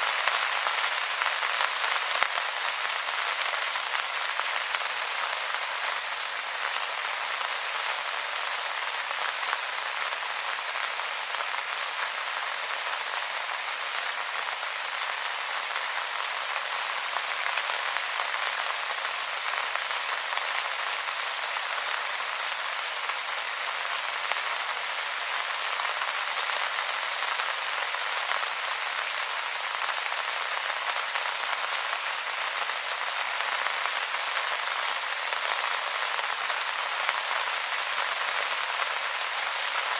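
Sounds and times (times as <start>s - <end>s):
rain falling on wet leaves: 0.0s - 39.9s.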